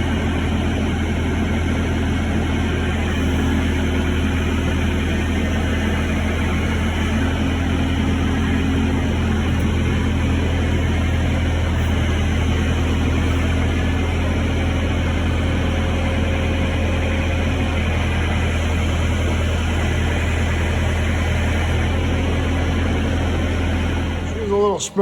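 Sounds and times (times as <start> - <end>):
low machine drone with hiss: 0.0 - 25.0.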